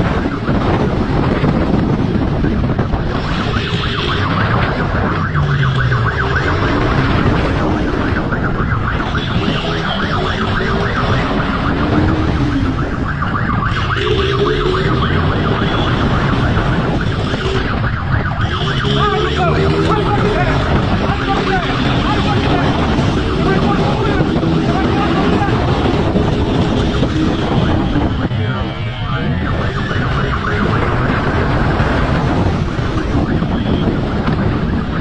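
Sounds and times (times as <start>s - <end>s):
siren wailing: 0.0s - 35.0s
wind rush on helmet microphone: 0.0s - 35.0s.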